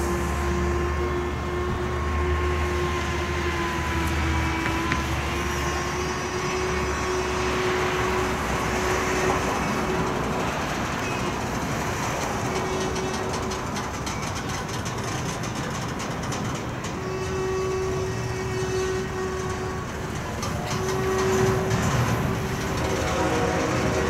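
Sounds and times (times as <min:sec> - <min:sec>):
distant steam locomotive exhaust: 0:00.0 - 0:24.0.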